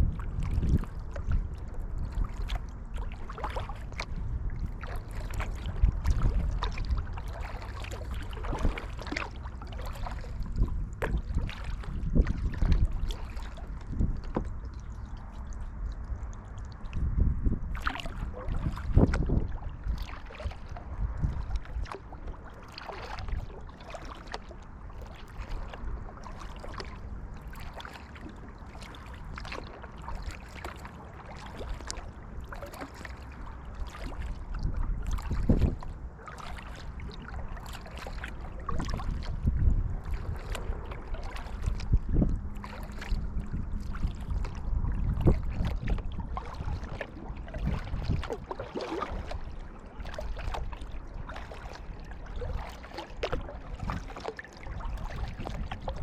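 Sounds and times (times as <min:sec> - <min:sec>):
kayak paddle splashing: 0:00.0 - 0:56.0
water lapping against hull: 0:00.0 - 0:56.0
wind rumble on microphone: 0:00.0 - 0:56.0.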